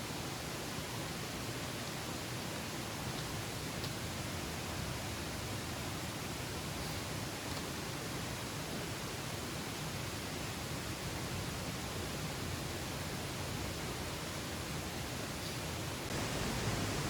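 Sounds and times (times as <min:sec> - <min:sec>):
outdoor ambience rushing noise: 0:00.0 - 0:17.0.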